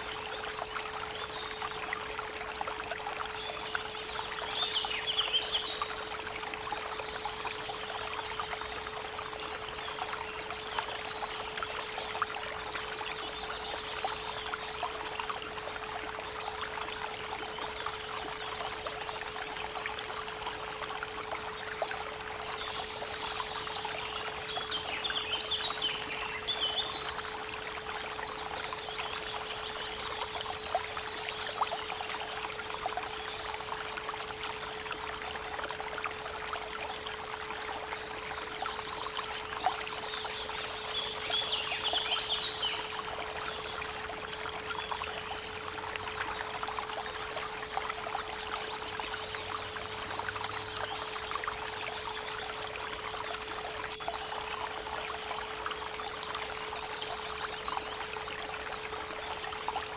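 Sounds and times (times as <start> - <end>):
creek water babbling: 0.0 - 59.9.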